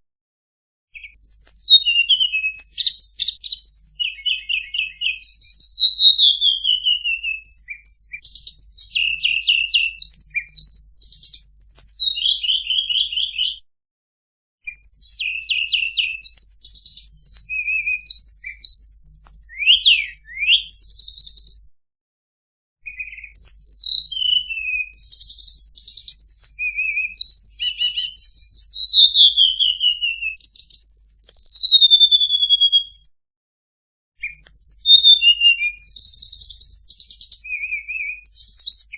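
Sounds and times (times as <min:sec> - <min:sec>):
songbird singing: 0:01.0 - 0:13.6, 0:14.6 - 0:21.7, 0:22.8 - 0:33.1, 0:34.2 - 0:38.9.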